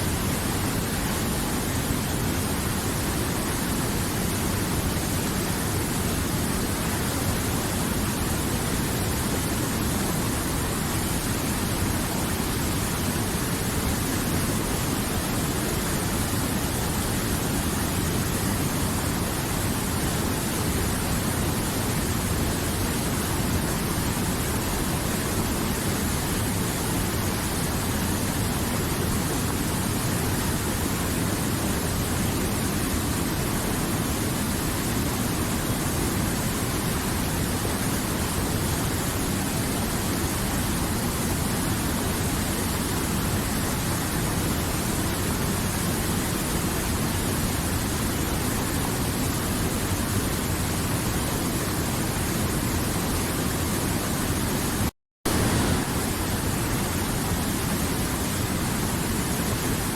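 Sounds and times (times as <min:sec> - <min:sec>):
river water rushing: 0:00.1 - 0:59.9.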